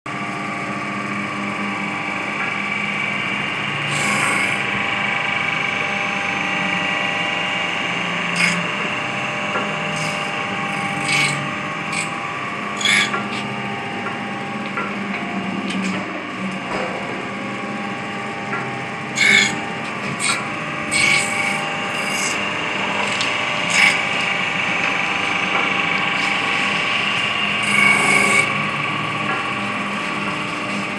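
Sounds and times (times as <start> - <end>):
grinder motor humming and whining: 0.1 - 30.9.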